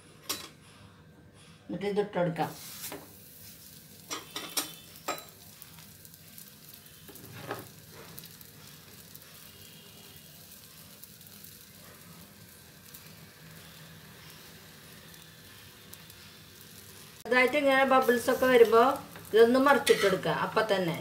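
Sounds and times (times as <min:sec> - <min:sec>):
dough sizzling on griddle: 0:02.4 - 0:21.0.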